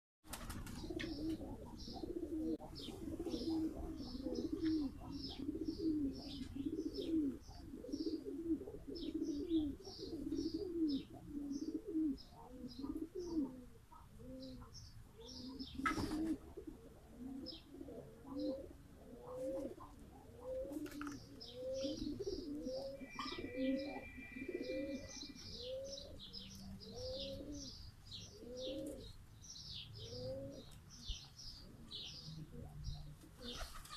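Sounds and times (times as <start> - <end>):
small birds chirping: 0.4 - 16.3, 17.4 - 33.9
pigeons cooing: 0.4 - 33.9.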